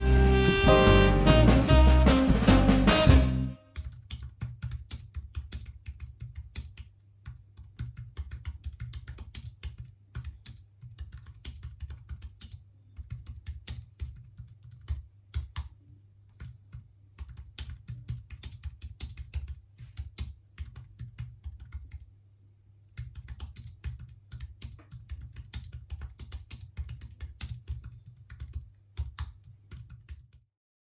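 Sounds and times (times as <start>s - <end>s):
light keyboard typing clicks: 3.8s - 22.1s, 23.0s - 30.4s.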